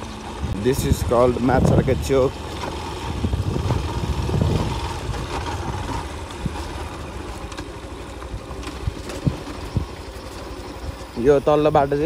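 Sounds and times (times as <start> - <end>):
motorcycle engine running: 0.0 - 12.0
wind rumble on microphone: 0.3 - 7.6, 8.2 - 11.1.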